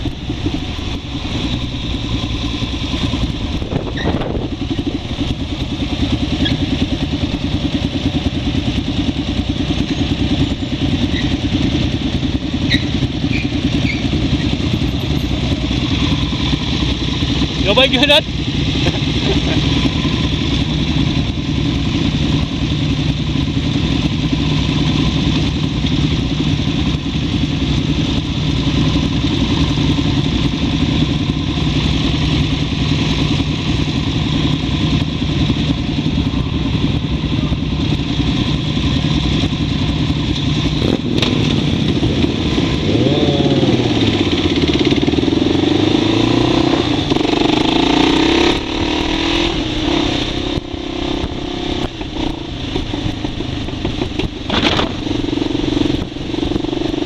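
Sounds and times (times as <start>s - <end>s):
motorcycle engines idling: 0.0s - 57.0s
motorcycle pulling away: 0.0s - 57.0s.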